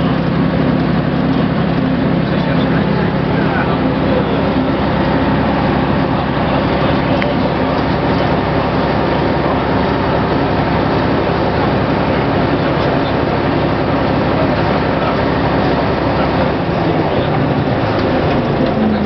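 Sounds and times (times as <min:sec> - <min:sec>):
bus diesel engine running: 0:00.0 - 0:19.0
road and cabin noise: 0:00.0 - 0:19.0.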